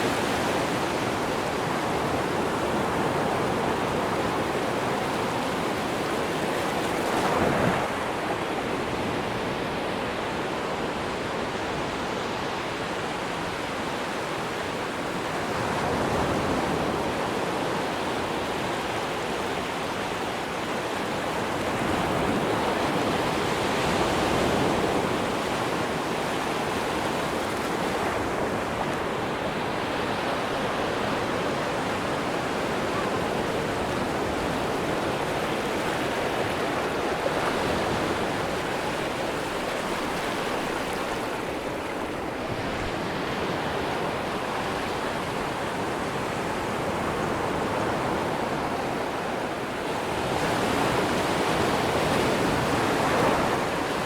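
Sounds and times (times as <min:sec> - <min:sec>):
surf breaking on a sandy beach: 0:00.0 - 0:54.0.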